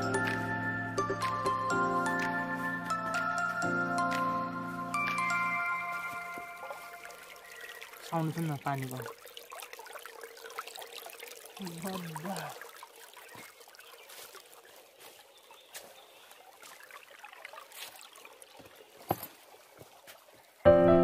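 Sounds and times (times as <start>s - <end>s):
water ticks: 1.1s - 20.6s
stream trickling over stones: 2.0s - 20.7s.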